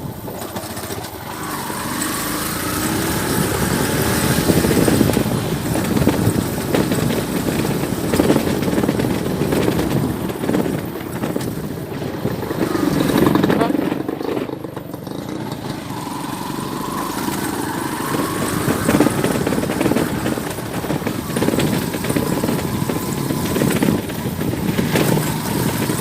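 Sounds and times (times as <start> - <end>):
road traffic engines rumbling: 0.0 - 26.0.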